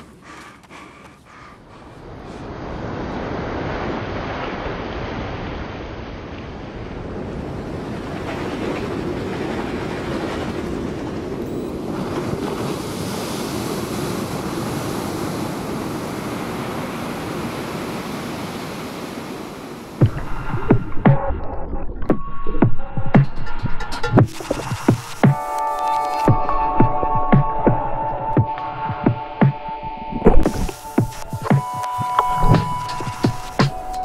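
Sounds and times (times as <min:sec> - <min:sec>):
ocean surf breaking: 0:01.9 - 0:21.6, 0:24.2 - 0:34.0.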